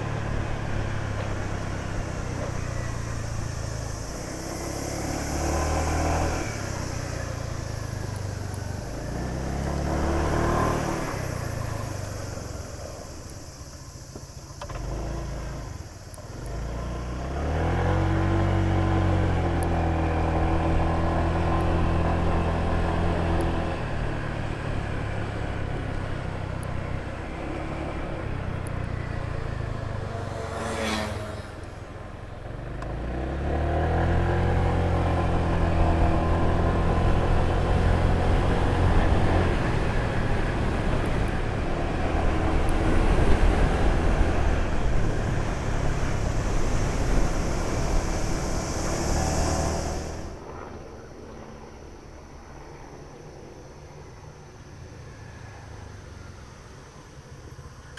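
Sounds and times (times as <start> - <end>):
scooter engine running: 0.0 - 50.5.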